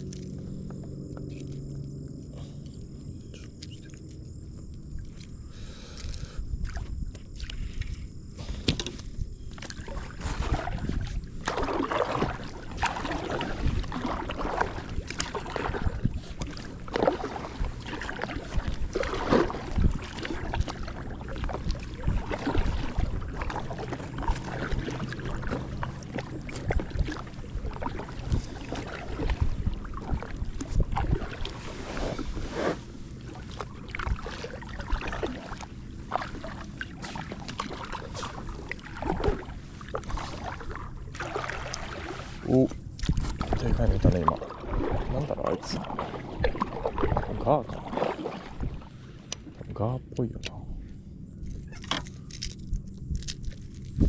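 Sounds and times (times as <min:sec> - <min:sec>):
knocks and clicks against boat: 0:00.0 - 0:05.3, 0:05.9 - 0:31.6, 0:33.2 - 0:54.0
water splashing and sloshing: 0:00.0 - 0:54.0.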